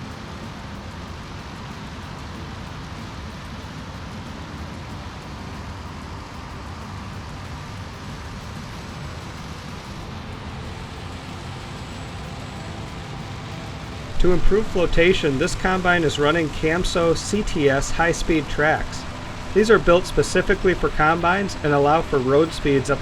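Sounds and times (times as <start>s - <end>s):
combine harvester engine rumbling: 0.0s - 23.0s.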